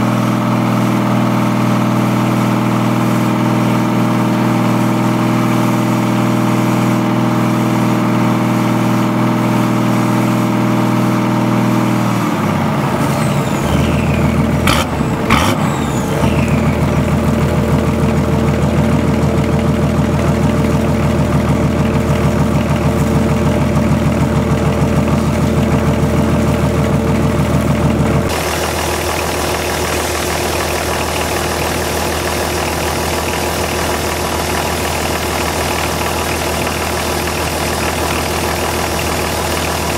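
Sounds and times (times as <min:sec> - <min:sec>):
diesel engine running roughly: 0:00.0 - 0:39.9.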